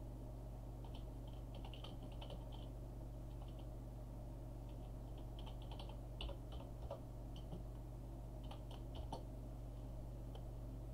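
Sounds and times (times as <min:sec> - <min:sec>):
low electrical hum: 0:00.0 - 0:10.9.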